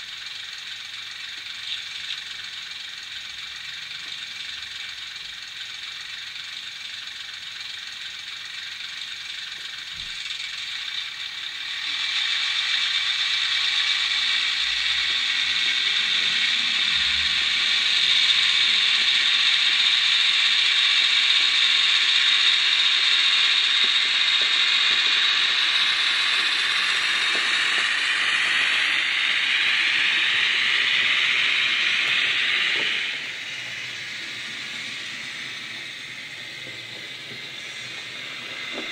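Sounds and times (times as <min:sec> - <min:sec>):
model train mechanical whirring: 0:00.0 - 0:38.9.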